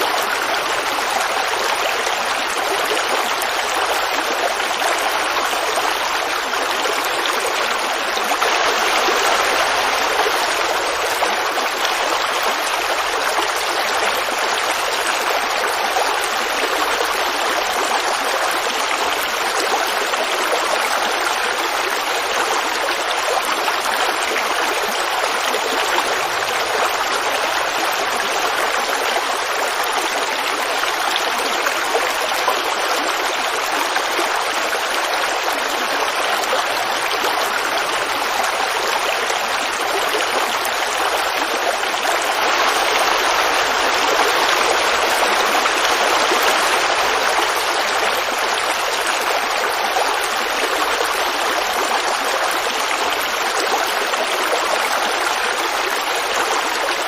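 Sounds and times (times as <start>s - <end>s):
creek babbling over rocks: 0.0s - 57.0s.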